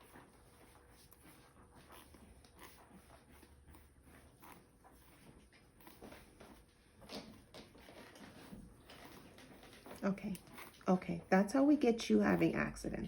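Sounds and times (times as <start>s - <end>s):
faint rustling: 0.0s - 13.0s.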